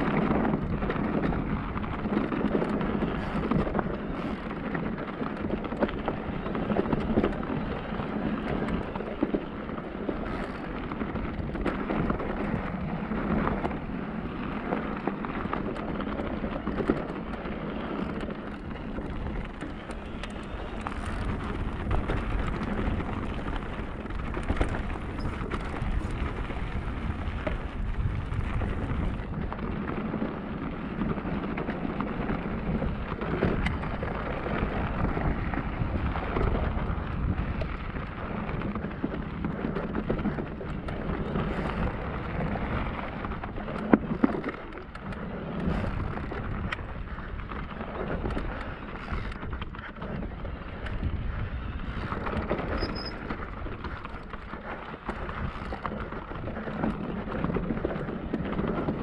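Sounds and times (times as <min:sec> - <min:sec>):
bike knocks and rattles: 0:00.0 - 0:59.0
bike tyres crackling on trail: 0:00.0 - 0:59.0
wind rumble on microphone: 0:00.0 - 0:59.0.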